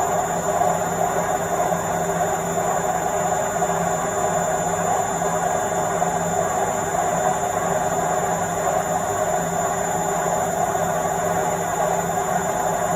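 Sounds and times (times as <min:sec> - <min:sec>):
washing machine spinning: 0:00.0 - 0:12.9.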